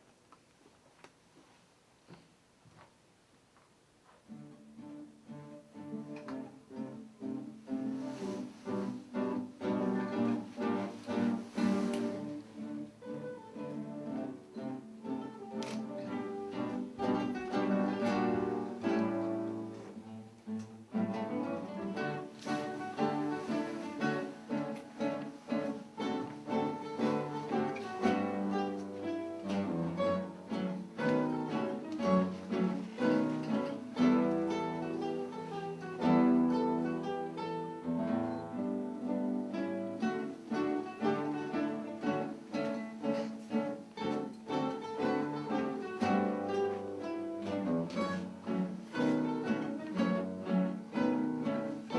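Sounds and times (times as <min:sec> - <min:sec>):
plucked guitar ensemble music: 0:04.2 - 0:51.9.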